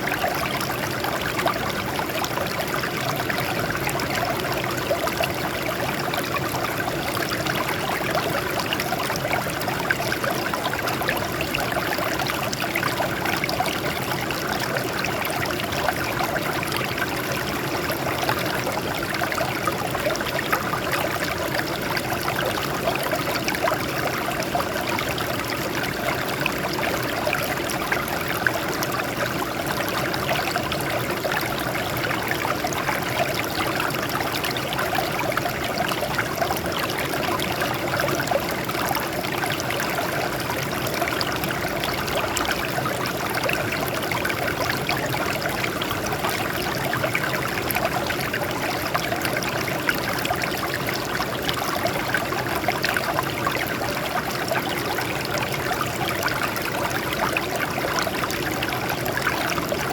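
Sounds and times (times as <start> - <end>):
stream water flowing over rocks: 0.0 - 59.9.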